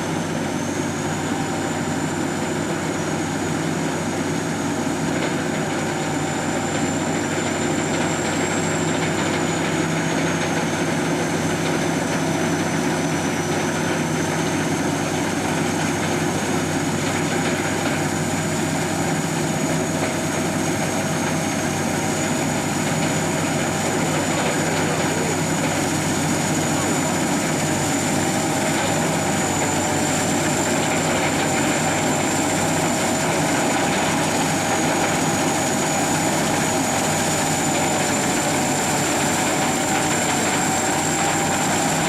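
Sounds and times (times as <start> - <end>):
combine harvester machinery drone: 0.0 - 42.0
high-pitched whine: 0.0 - 42.0.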